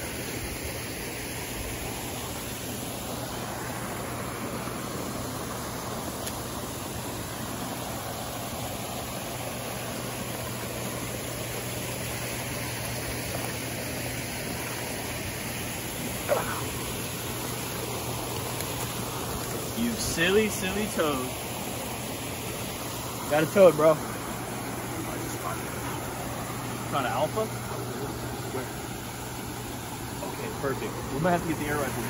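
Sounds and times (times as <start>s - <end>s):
low pump hum: 0.0s - 32.0s
pool water rushing: 0.0s - 32.0s.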